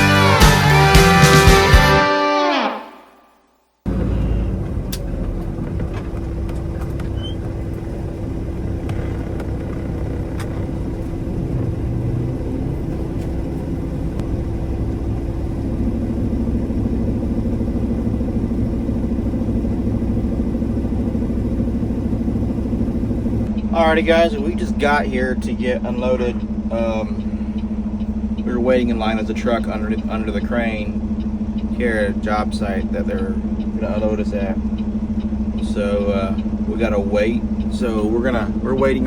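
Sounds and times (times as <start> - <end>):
truck diesel engine droning: 0.0 - 2.2, 3.9 - 39.0
lower engine note: 0.0 - 2.8, 3.9 - 39.0.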